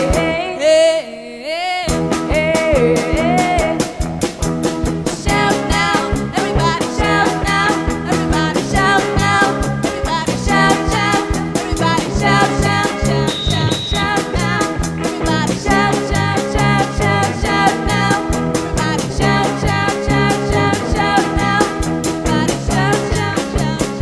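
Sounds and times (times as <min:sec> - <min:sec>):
women singing: 0:00.0 - 0:03.8, 0:05.1 - 0:24.0
electric guitar: 0:00.0 - 0:24.0
drum kit beat: 0:01.9 - 0:24.0.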